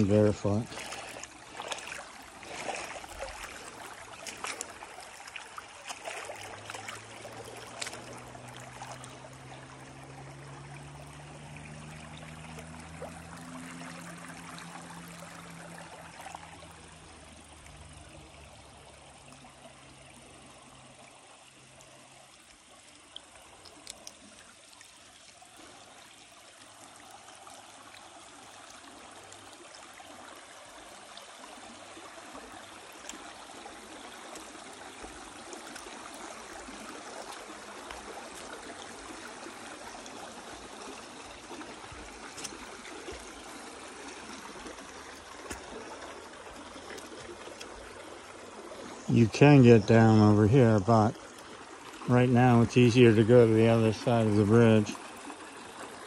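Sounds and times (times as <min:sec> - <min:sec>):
creek water trickling over rock: 0:00.0 - 0:56.0.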